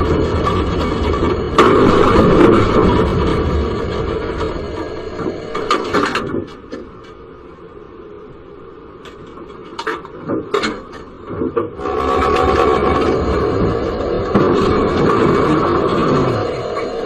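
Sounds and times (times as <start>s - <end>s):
tram cab rumble: 0.0s - 17.0s.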